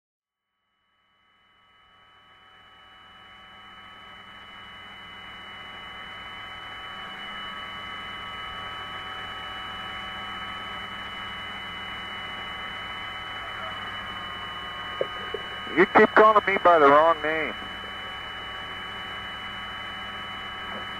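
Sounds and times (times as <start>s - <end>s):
electrical hum: 4.1s - 20.9s.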